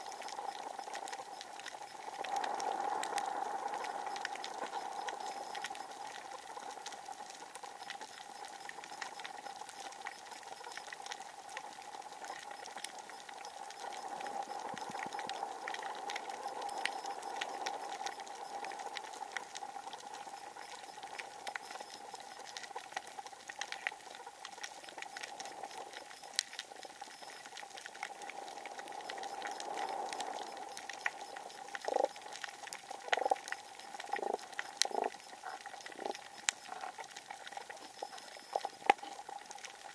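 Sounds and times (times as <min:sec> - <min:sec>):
steady underwater hum: 0:00.0 - 0:39.9
underwater clicks and crackles: 0:00.0 - 0:39.9.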